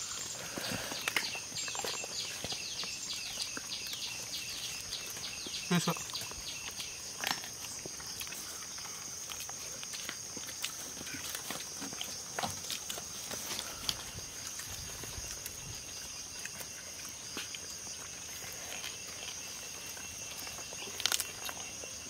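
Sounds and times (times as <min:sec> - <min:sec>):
people chewing and lip smacking: 0:00.0 - 0:22.0.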